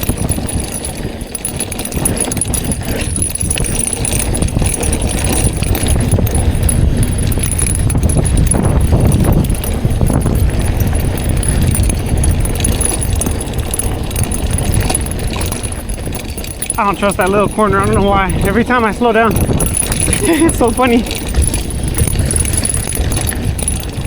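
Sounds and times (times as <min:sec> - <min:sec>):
bike chain and frame rattling: 0:00.0 - 0:24.0
bike tyres rumbling on dirt: 0:00.0 - 0:24.0
wind on microphone: 0:00.0 - 0:24.0.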